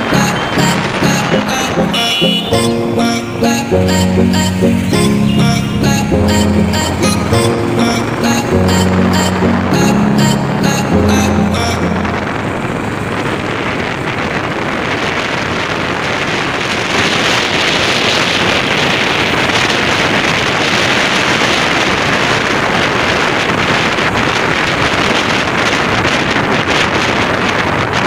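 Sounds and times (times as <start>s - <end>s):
motorcycle engine and road noise: 0.0s - 28.0s
wind rushing over microphone: 0.0s - 28.0s.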